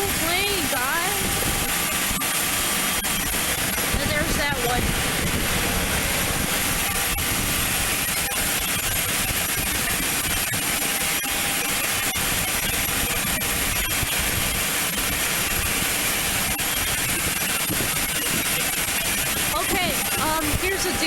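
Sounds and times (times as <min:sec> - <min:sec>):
faint high whine: 0:00.0 - 0:21.0
jet engines running: 0:00.0 - 0:21.0.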